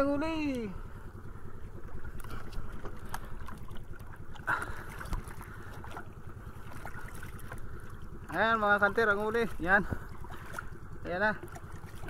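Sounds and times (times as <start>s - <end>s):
boat engine rumble: 0.0s - 12.0s
water noise: 0.0s - 12.0s.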